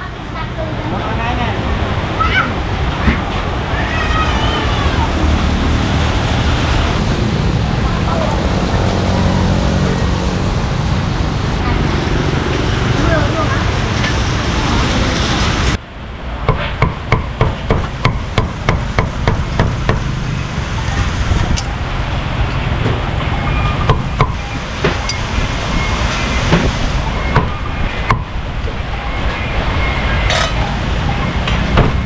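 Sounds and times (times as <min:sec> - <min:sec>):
street noise: 0:00.0 - 0:32.0.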